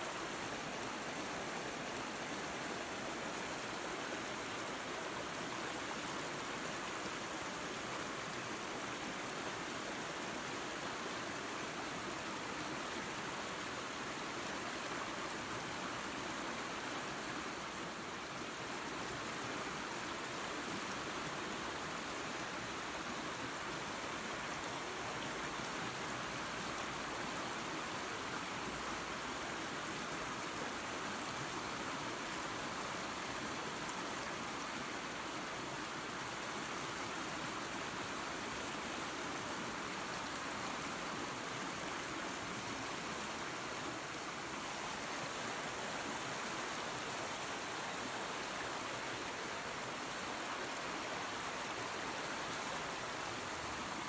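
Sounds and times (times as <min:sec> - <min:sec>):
small waterfall spilling into creek: 0:00.0 - 0:54.0.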